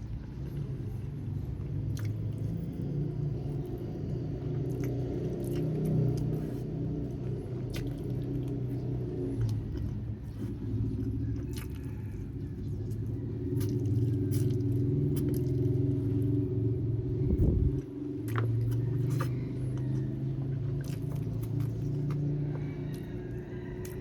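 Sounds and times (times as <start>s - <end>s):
chewing and biting food: 0.0s - 24.0s
low hum: 0.0s - 24.0s.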